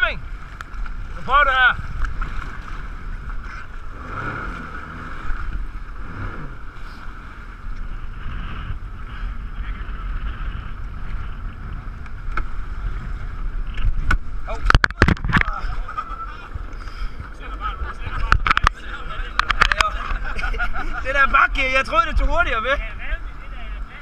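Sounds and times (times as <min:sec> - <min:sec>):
jet ski engine droning: 0:00.0 - 0:24.0
wind rumbling on microphone: 0:00.0 - 0:24.0.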